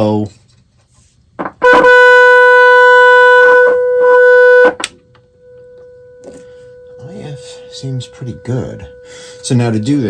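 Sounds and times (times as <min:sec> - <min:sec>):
buzzy test tone from loudspeaker: 0:01.6 - 0:10.0.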